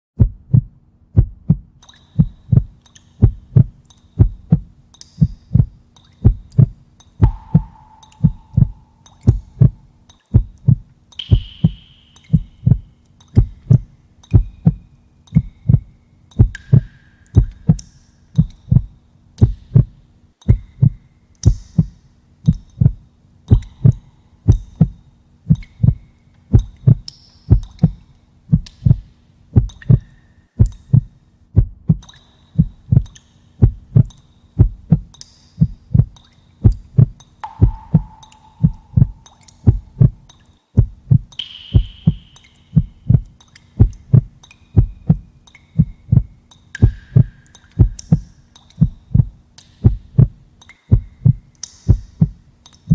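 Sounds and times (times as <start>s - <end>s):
heartbeat double thump: 0.2s - 14.8s, 15.4s - 17.8s, 18.4s - 19.9s, 20.5s - 22.0s, 22.7s - 30.0s, 30.6s - 32.0s, 32.6s - 48.2s, 48.8s - 52.4s
faint hum: 0.2s - 52.9s.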